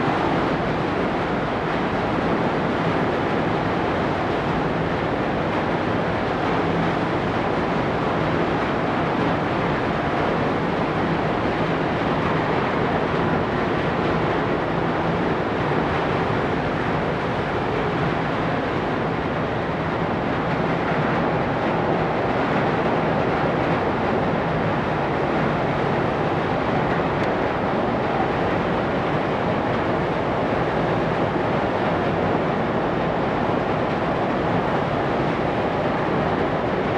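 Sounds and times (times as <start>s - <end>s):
ship engine and churned water: 0.0s - 36.9s.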